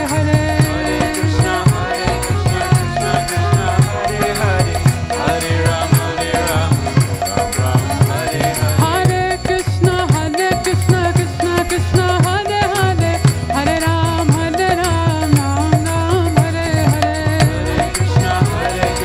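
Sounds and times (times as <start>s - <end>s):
jingling hand percussion: 0.0s - 19.0s
steady percussive beat: 0.0s - 19.0s.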